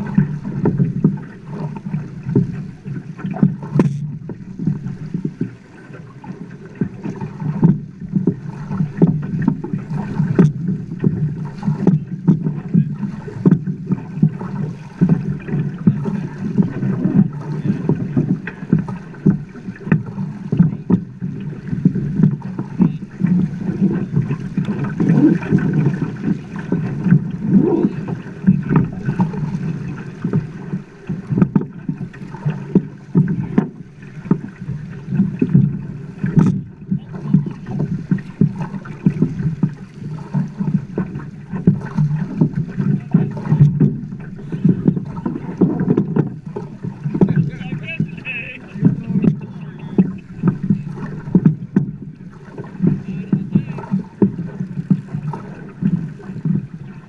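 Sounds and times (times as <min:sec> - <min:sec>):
river water slapping against boat: 0:00.0 - 0:57.0.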